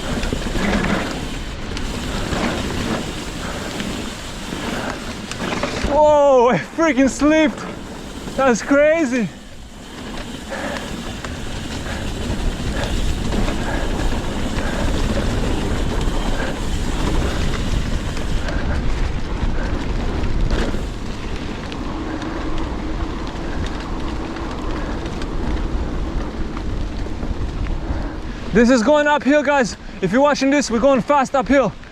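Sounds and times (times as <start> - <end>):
tyre noise: 0.0 - 27.2
wind buffeting microphone: 0.0 - 28.7
mountain bike rattling: 0.0 - 31.9.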